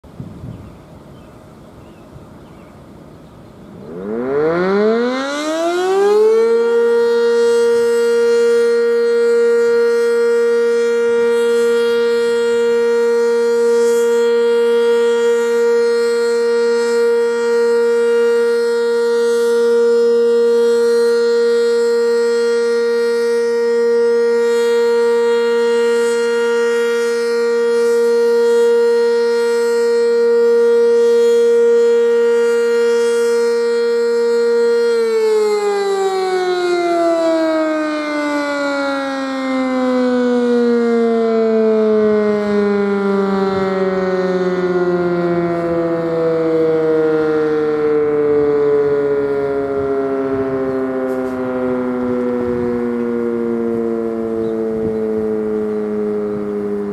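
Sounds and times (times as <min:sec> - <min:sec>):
warning siren winding up: 0:03.8 - 0:56.9.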